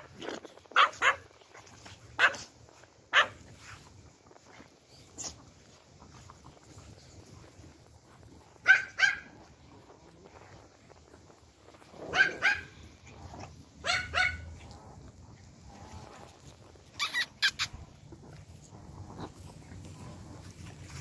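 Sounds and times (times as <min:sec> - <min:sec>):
small dogs yapping: 0:00.0 - 0:05.4, 0:08.1 - 0:10.7, 0:11.7 - 0:21.0.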